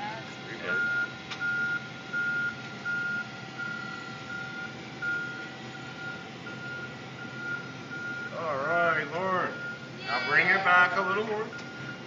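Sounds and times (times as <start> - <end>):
forklift reversing alarm beeping: 0.0 - 12.0.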